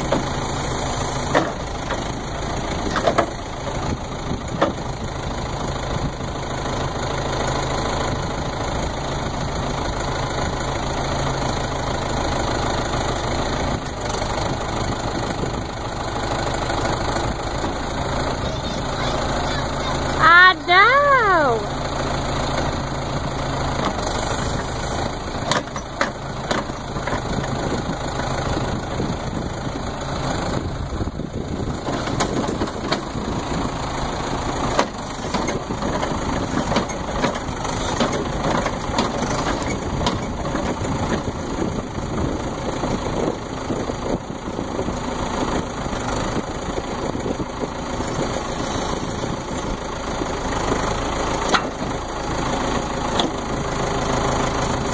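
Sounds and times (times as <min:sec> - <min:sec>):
backhoe engine running: 0:00.0 - 0:54.9.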